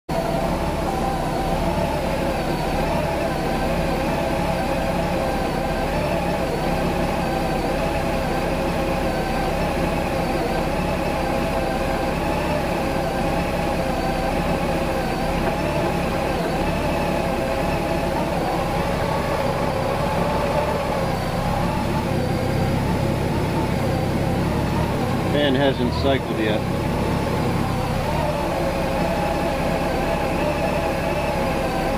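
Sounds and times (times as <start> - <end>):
motorcycle engine idling: 0.1 - 31.9.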